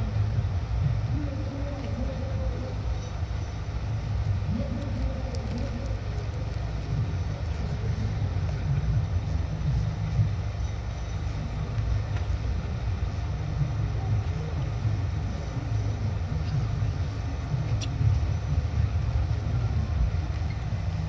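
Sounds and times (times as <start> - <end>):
hushed crowd low rumble: 0.0 - 21.0.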